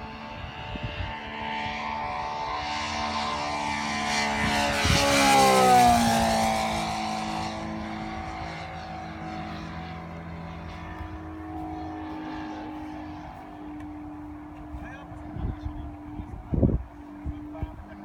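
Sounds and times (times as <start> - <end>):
model plane engines flying past: 0.0 - 18.0.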